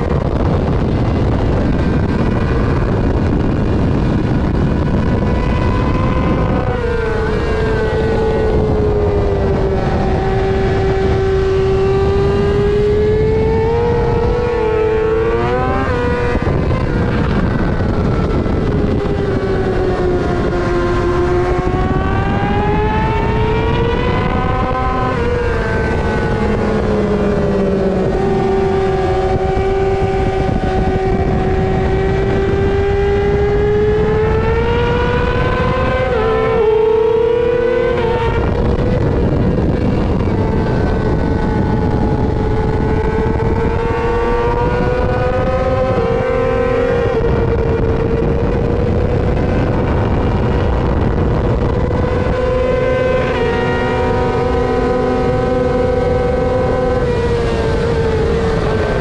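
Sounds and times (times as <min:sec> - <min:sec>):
motorcycle engine at high revs: 0:00.0 - 0:59.0
wind rush: 0:00.0 - 0:59.0.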